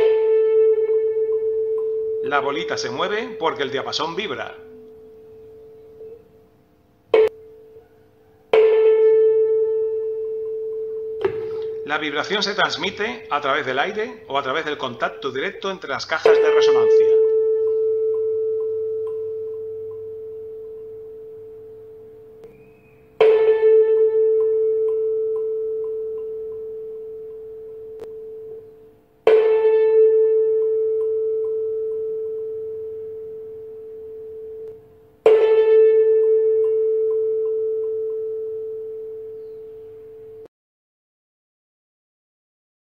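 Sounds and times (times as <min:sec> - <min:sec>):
mallet striking tuning fork: 0:00.0 - 0:06.2, 0:07.1 - 0:07.9, 0:08.5 - 0:15.6, 0:16.2 - 0:40.5
tuning fork ringing: 0:00.0 - 0:40.5.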